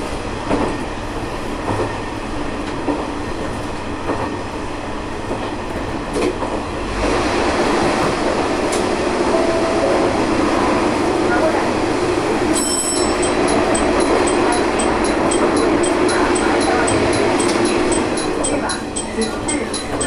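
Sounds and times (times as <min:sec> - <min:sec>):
railcar running rumble: 0:00.0 - 0:20.0.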